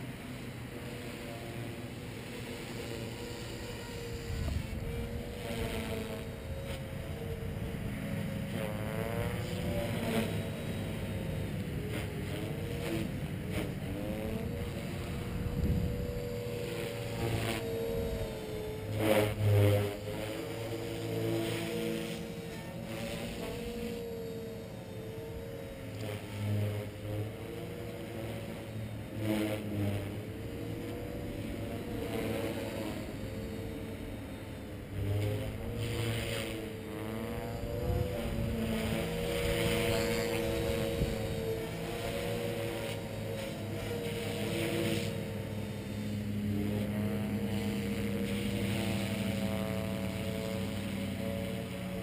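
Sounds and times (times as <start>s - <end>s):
rc helicopter motor and rotor hum: 0.0s - 52.0s.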